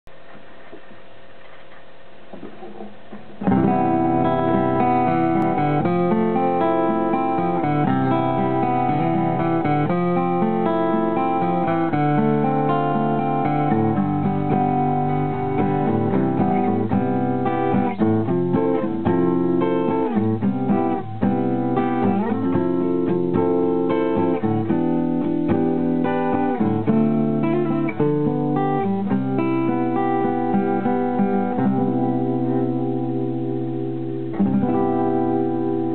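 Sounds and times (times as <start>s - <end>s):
acoustic guitar strummed and picked: 2.3s - 35.9s.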